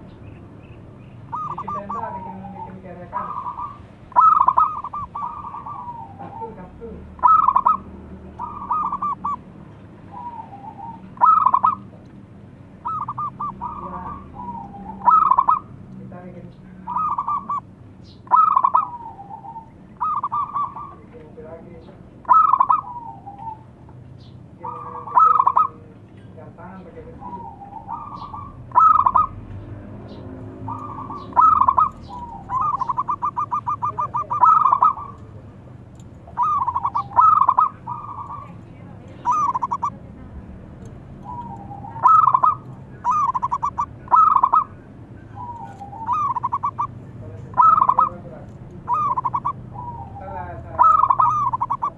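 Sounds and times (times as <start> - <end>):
dove cooing: 1.3 - 12.0, 12.8 - 15.8, 16.7 - 23.8, 24.6 - 25.9, 26.7 - 29.4, 30.0 - 51.9.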